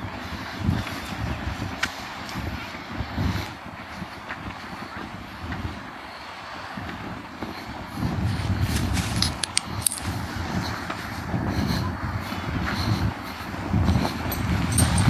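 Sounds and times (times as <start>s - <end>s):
seaside wash of noise: 0.0s - 15.0s.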